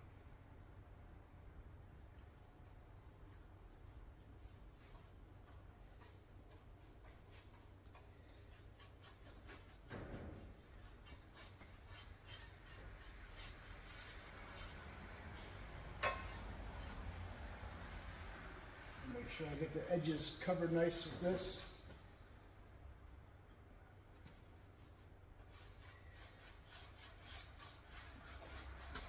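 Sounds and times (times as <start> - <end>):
low steady hum: 0.0 - 27.2
paintbrush strokes on metal: 2.0 - 21.9, 24.3 - 29.0.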